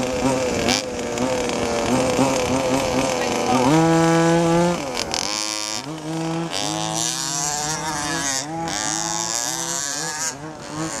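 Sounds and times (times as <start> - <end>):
model car engines revving: 0.0 - 11.0.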